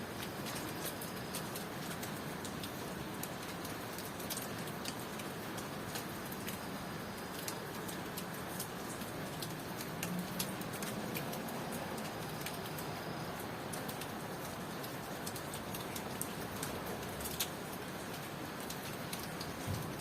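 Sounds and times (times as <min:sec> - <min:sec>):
steady rain hiss: 0:00.0 - 0:20.0
drips ticking on hard surfaces: 0:00.1 - 0:20.0.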